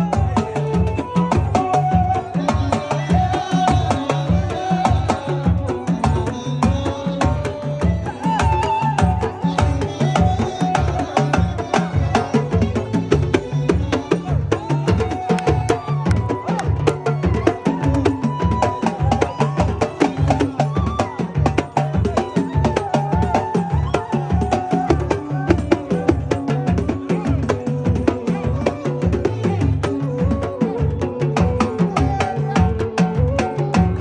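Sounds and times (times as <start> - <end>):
fast hand drum beat: 0.0 - 34.0.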